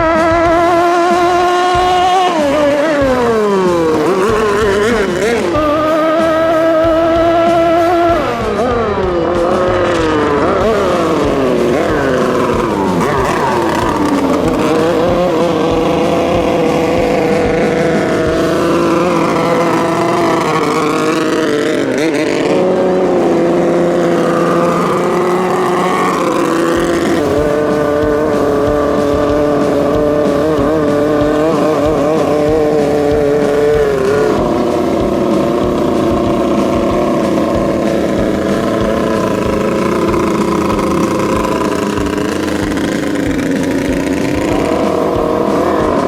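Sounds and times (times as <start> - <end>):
speedboat engines at high revs: 0.0 - 46.0.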